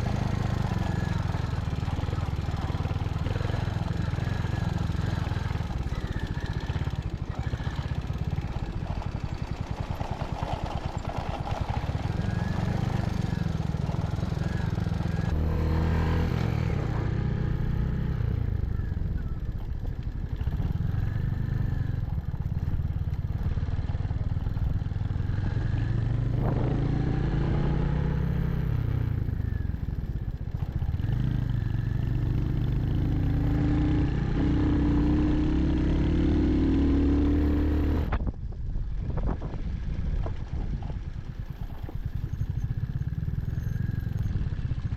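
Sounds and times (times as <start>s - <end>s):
motorcycle engine revving: 0.0s - 38.2s, 39.4s - 44.9s.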